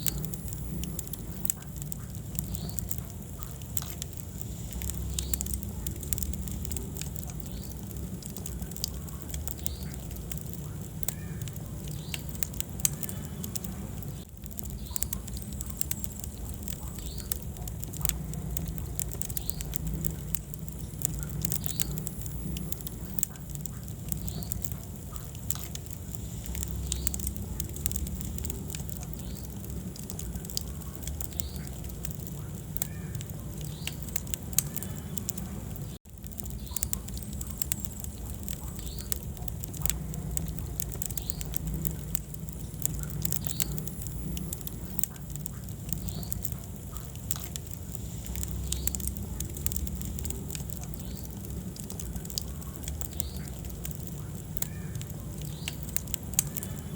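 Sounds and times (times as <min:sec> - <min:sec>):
low rumble of flame: 0:00.0 - 0:56.9
wood fire crackling and popping: 0:00.0 - 0:56.9.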